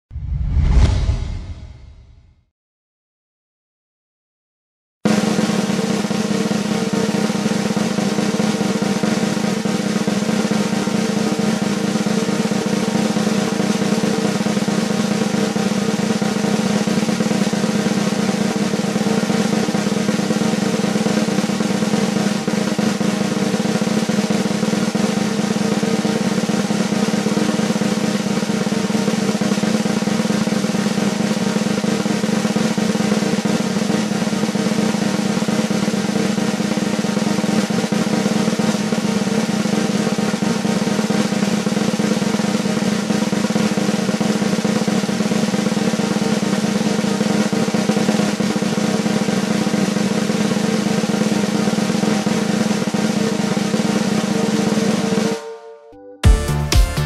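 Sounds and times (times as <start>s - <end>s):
snare drum roll: 0.1s - 2.3s, 5.1s - 55.4s.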